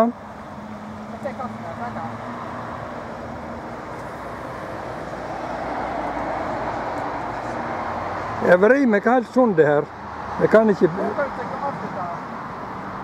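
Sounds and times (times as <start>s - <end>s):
passing vehicle traffic noise: 0.0s - 13.0s.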